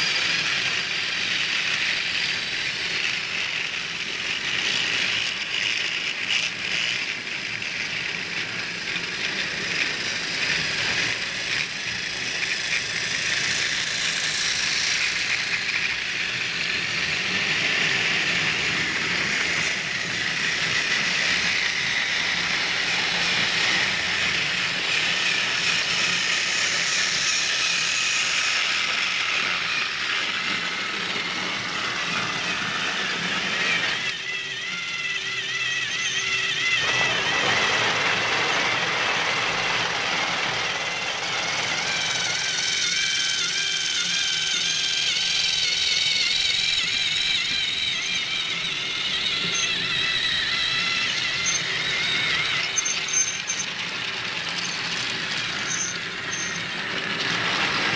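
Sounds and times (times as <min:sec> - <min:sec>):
toy train motor whirring: 0:00.0 - 0:57.9
toy train wheels rattling: 0:00.0 - 0:57.9.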